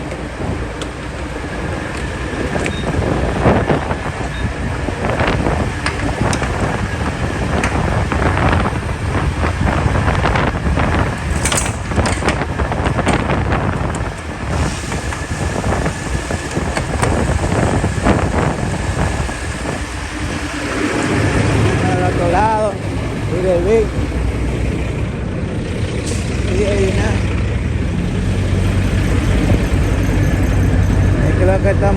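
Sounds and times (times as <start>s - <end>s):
vehicle rumble: 0.0s - 31.9s
wind buffeting microphone: 0.0s - 31.9s.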